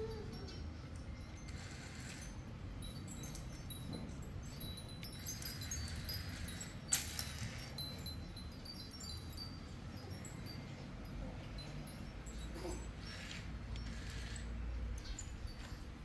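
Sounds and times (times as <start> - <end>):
high tinkling notes: 2.2 - 16.0.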